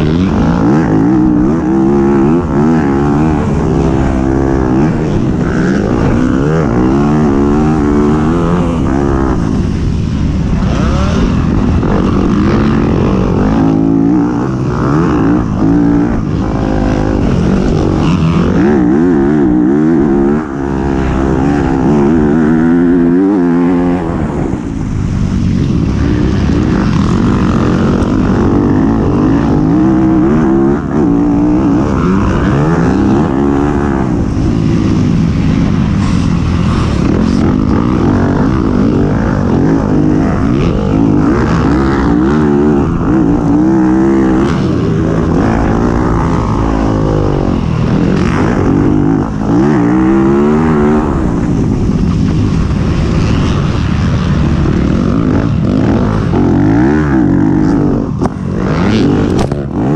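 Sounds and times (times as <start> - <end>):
race car engine revving: 0.0 - 59.9
steady rushing noise: 0.0 - 59.9.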